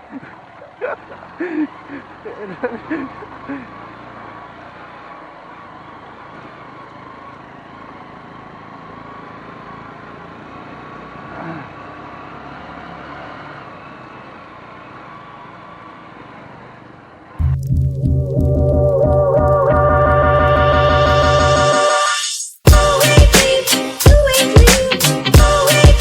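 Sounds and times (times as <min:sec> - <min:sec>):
vehicle engine and road drone: 0:00.0 - 0:26.0.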